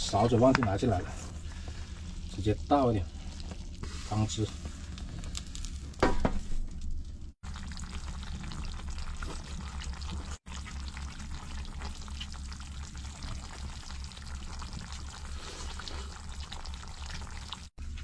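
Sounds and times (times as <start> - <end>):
stew bubbling in a pot: 0.0 - 18.0.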